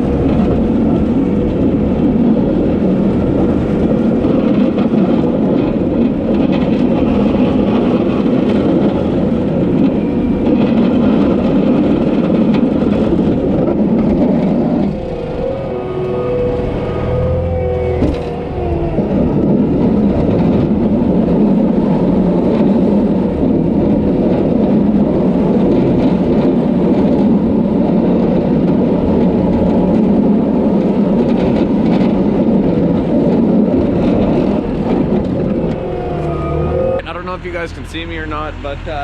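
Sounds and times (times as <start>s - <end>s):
diesel engine running under load: 0.0s - 39.0s.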